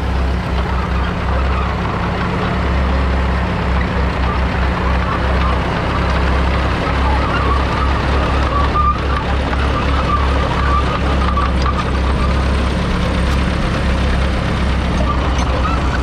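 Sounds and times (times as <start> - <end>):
crawler tractor engine running: 0.0 - 16.0.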